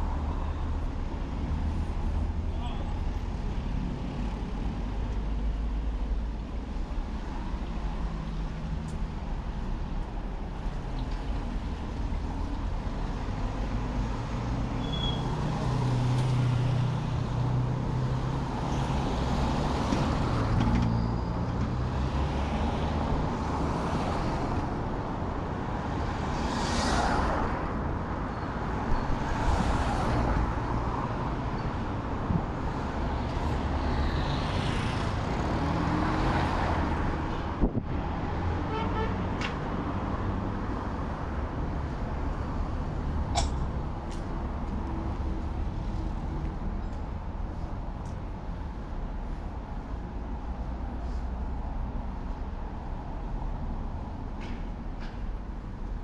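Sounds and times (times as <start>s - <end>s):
road traffic rumble: 0.0s - 56.0s
vehicles passing: 0.0s - 56.0s.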